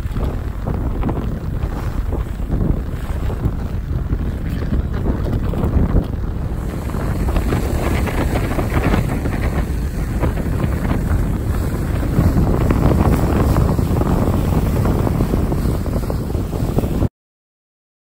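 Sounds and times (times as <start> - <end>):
bow wave rushing and splashing: 0.0 - 17.1
wind buffeting microphone: 0.0 - 17.1.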